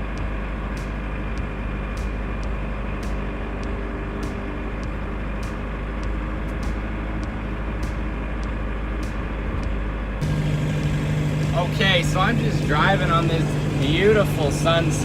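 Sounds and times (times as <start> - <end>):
diesel engine running: 0.0 - 15.0
strong steady hum: 0.0 - 15.0.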